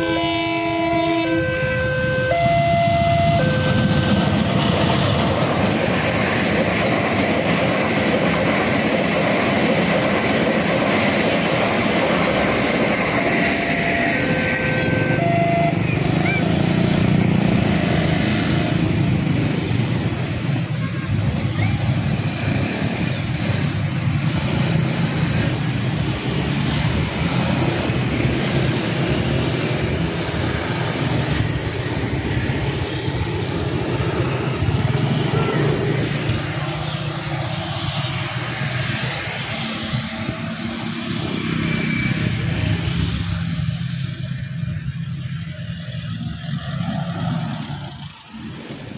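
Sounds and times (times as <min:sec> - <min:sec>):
scooters and cars driving past: 0:01.4 - 0:48.9.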